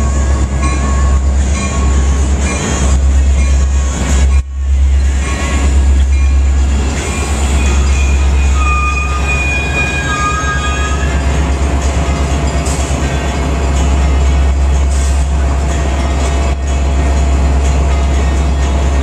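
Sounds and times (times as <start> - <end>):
train wheel squeal: 0.0 - 17.1
train rumbling: 0.0 - 19.0.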